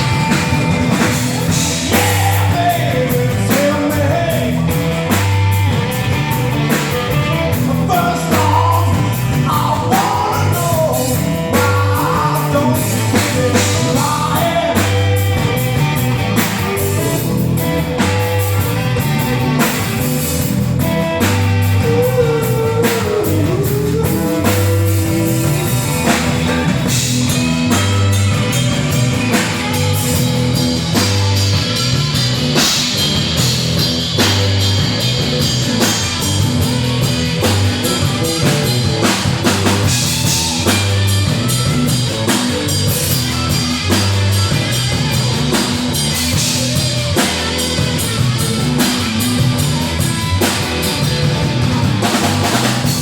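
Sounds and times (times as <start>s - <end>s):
bass line riff: 0.0s - 53.0s
drum kit: 0.0s - 53.0s
guitar: 0.0s - 53.0s.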